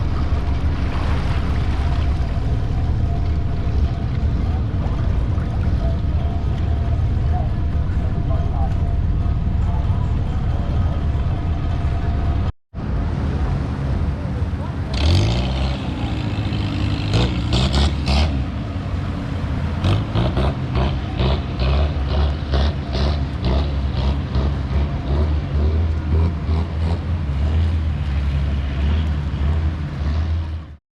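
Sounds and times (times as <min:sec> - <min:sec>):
engines rumbling: 0:00.0 - 0:30.8.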